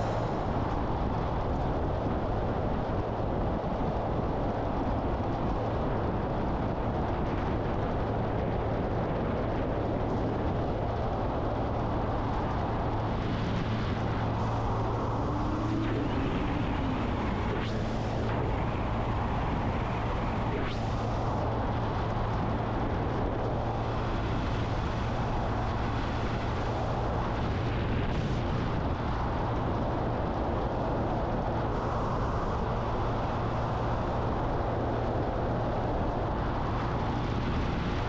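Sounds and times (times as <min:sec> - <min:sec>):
wind rush over microphone: 0:00.0 - 0:38.0.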